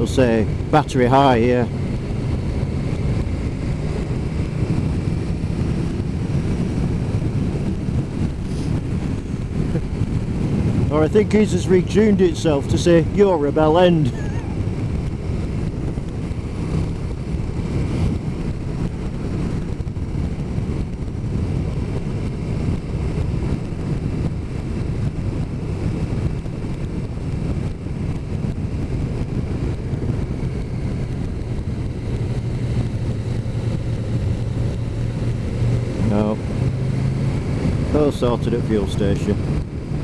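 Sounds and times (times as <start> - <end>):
motorcycle engine running: 0.0 - 40.0
rushing wind: 0.0 - 40.0.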